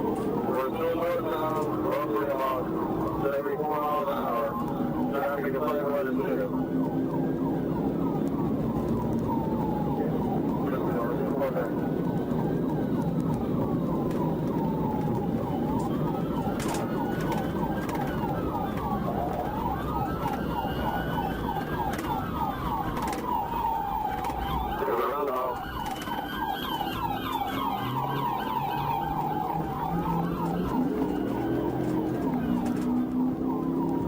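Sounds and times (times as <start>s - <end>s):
engine and road noise: 0.0s - 34.0s
police siren wailing: 0.0s - 34.0s
police siren yelp: 0.0s - 34.0s.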